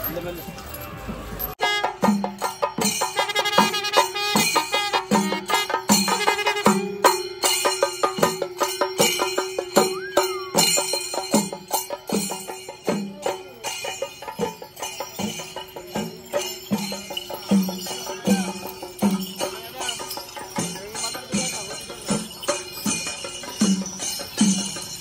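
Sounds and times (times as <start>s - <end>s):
jingling metallic ring: 0.0s - 25.0s.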